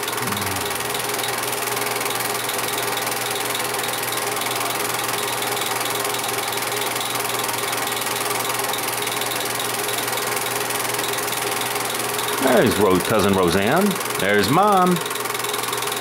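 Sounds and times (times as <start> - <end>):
film projector whirring: 0.0 - 16.0.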